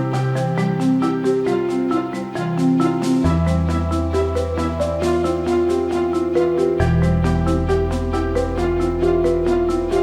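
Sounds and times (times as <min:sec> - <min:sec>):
mallet music with bass: 0:00.0 - 0:10.0.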